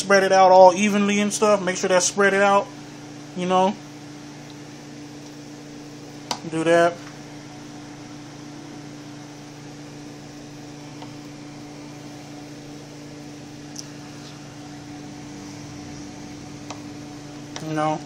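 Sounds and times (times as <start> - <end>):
fan humming and hissing: 0.0 - 18.0.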